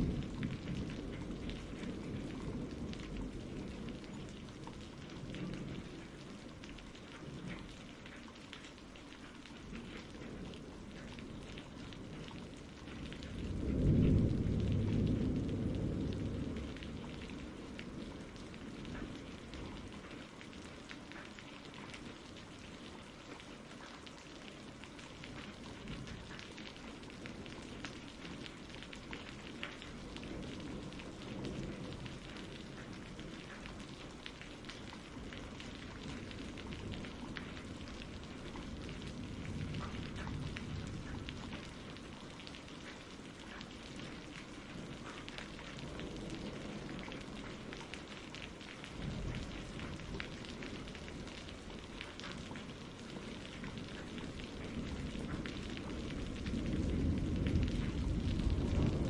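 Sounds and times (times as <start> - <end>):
distant thunder rumbles: 0.0 - 8.2, 9.3 - 22.9, 24.6 - 59.0
rain pattering on a surface: 0.0 - 59.0.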